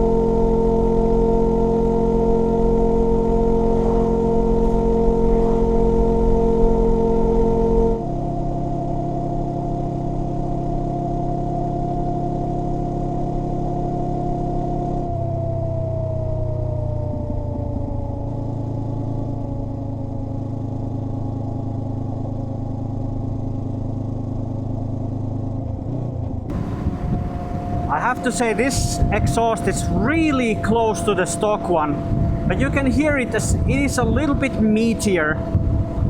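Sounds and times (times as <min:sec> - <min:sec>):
whine sliding down in pitch: 0:00.0 - 0:23.4, 0:26.5 - 0:36.0
knobby tyre humming: 0:00.0 - 0:36.0
motorcycle engine running: 0:00.0 - 0:36.0.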